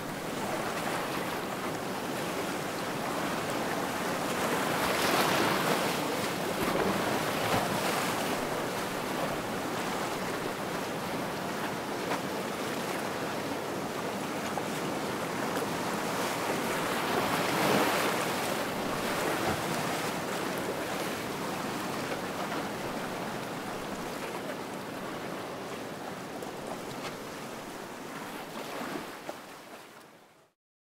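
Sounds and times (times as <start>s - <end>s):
surf washing over rocks: 0.0s - 29.6s.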